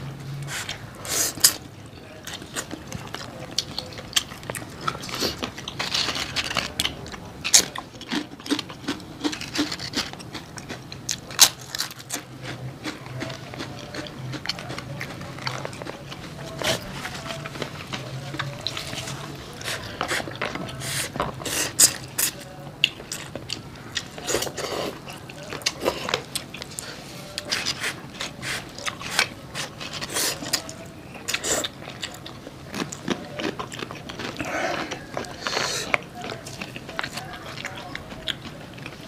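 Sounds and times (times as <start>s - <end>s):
low steady hum: 0.0s - 39.0s
chewing and smacking: 0.2s - 39.0s.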